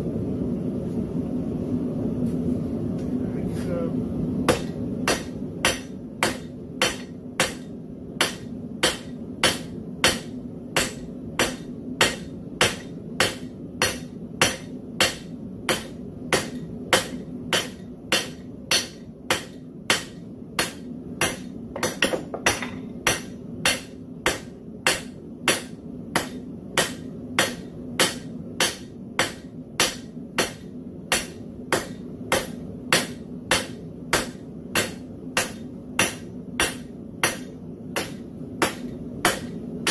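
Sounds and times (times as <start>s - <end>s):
hammer striking metal on anvil: 4.5s - 39.9s.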